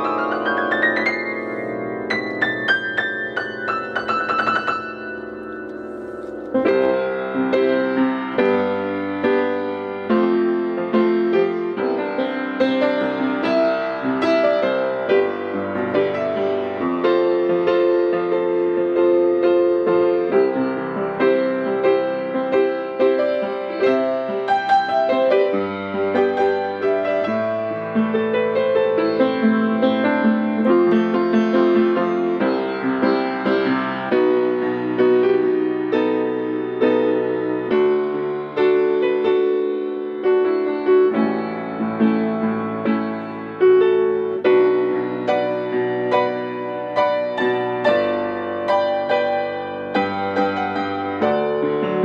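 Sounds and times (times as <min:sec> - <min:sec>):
upright piano playing: 0:00.0 - 0:52.0.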